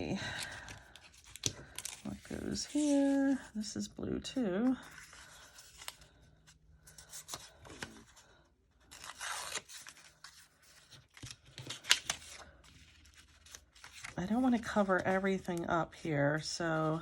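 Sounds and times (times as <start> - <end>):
paper rustling and crinkling: 0.2 - 3.6, 4.6 - 15.7.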